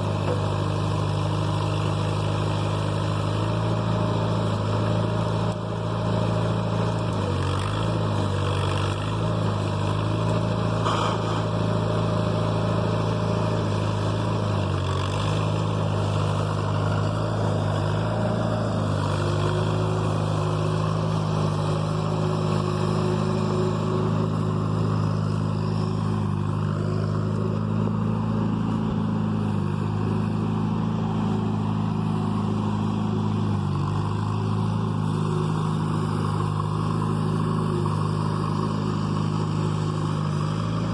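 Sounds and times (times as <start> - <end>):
backhoe engine running: 0.0 - 40.9.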